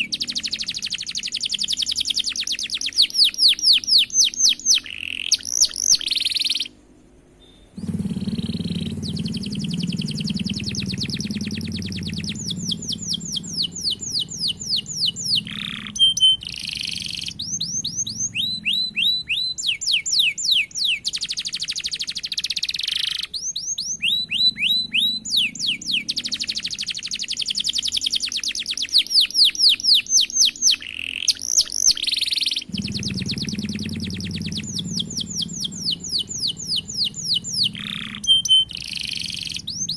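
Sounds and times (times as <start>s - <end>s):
canary singing rapid rolls: 0.0s - 39.9s.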